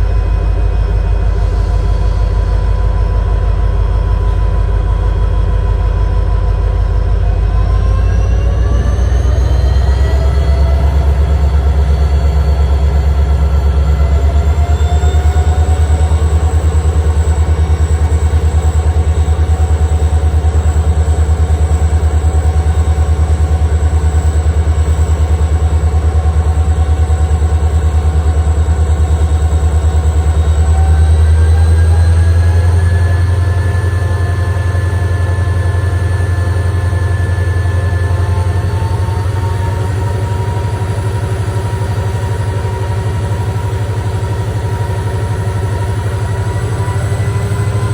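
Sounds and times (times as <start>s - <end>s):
diesel locomotive engine rumbling: 0.0s - 47.9s
high whine: 0.0s - 47.9s.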